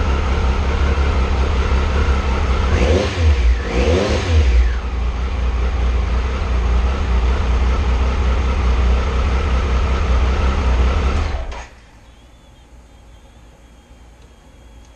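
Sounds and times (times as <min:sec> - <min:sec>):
motorcycle engine idling: 0:00.0 - 0:03.7, 0:04.4 - 0:14.9.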